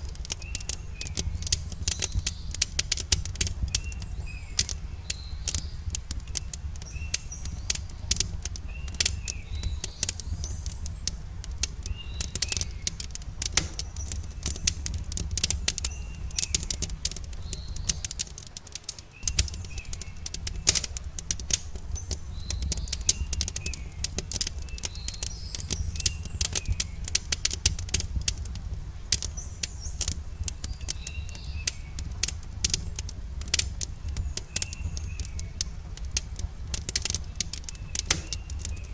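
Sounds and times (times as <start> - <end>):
campfire crackling: 0.0 - 38.9
small birds chirping: 0.0 - 38.9.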